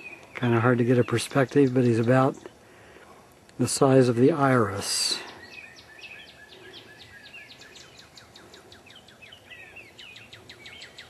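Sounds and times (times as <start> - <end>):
songbirds chirping faintly: 0.0 - 11.0.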